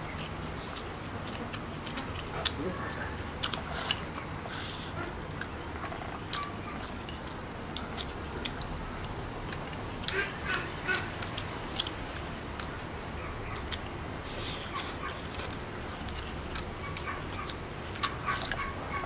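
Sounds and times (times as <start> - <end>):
chewing and slurping: 0.0 - 19.0.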